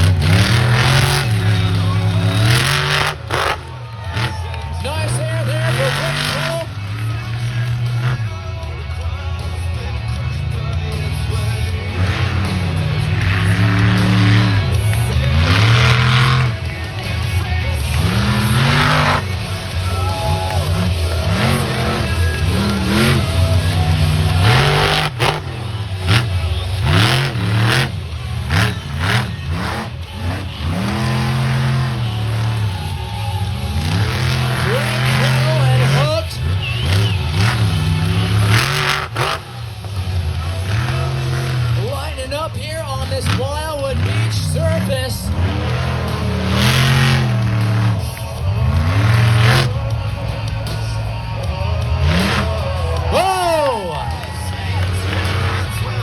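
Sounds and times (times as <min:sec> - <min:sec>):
loud music over loudspeakers: 0:00.0 - 0:56.0
monster truck engine revving: 0:00.0 - 0:56.0.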